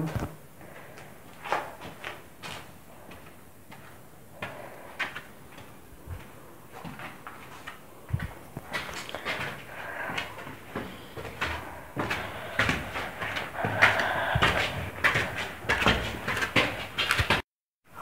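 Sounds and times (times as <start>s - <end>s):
footsteps on concrete: 0.0s - 17.4s.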